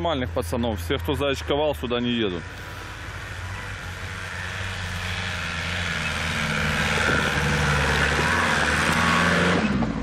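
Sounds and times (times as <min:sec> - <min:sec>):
off-road vehicle engine under load: 0:00.0 - 0:10.0.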